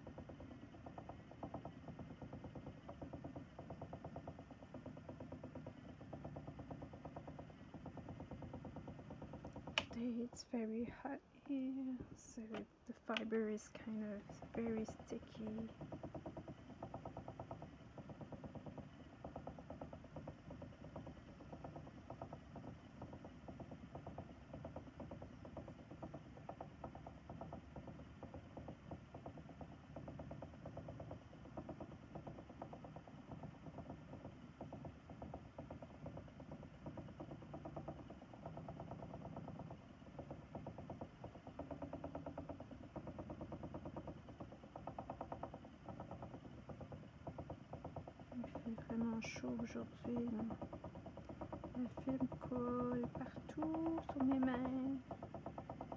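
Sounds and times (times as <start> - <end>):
spinning wheel whirring: 0.0 - 55.9.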